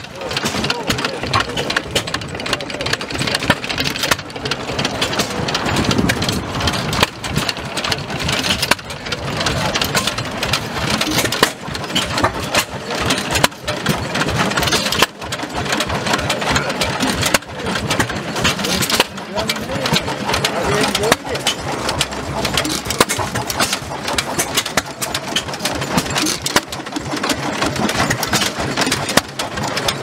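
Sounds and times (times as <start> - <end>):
stationary engines chugging: 0.0 - 30.0.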